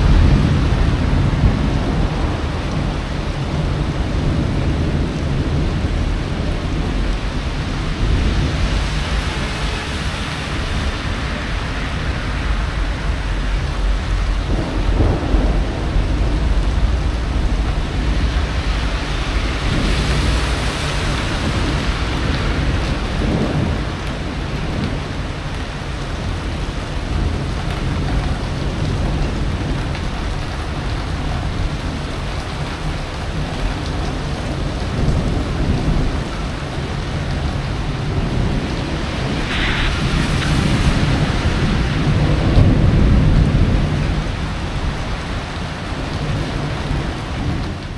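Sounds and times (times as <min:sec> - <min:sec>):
rain falling: 0:00.0 - 0:47.9
thunder rumbling: 0:00.0 - 0:47.9.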